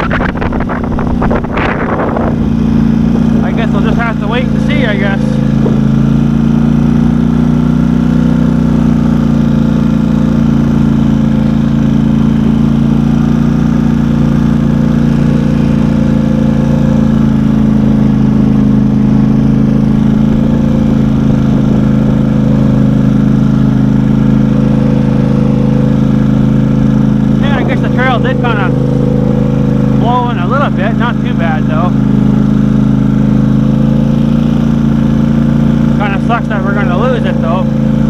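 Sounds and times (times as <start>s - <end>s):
off-road vehicle engine droning: 0.0s - 38.0s.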